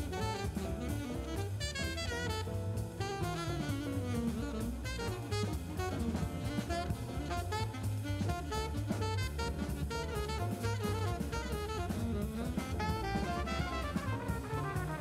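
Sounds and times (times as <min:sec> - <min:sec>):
drum kit: 0:00.0 - 0:15.0
jazz horn melody: 0:00.0 - 0:15.0.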